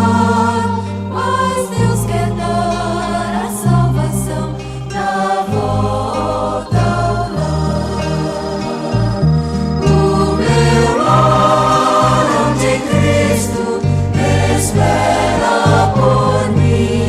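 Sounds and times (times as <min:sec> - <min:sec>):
bass line: 0:00.0 - 0:17.0
gospel choir singing: 0:00.0 - 0:17.0.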